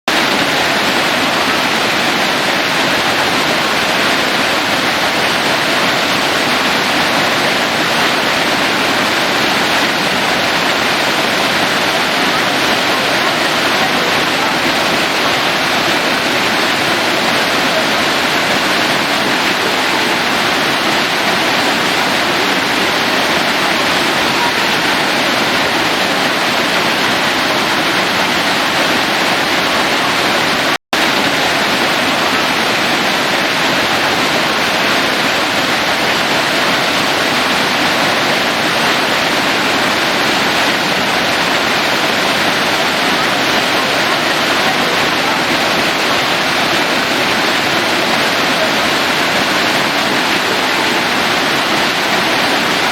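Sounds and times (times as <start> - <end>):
waterfall pouring into pool: 0.1 - 52.9.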